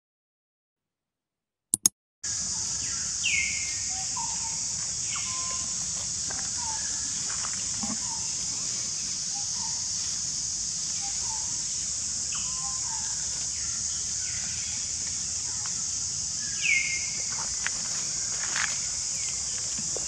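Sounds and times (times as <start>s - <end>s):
insect chorus hiss: 2.3s - 20.0s.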